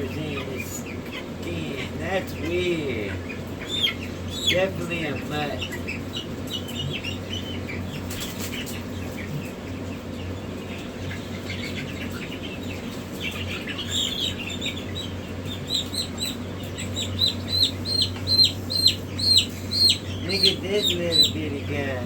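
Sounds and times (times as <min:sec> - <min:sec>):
chicks peeping: 0:00.0 - 0:22.0
steady low hum: 0:00.0 - 0:22.0.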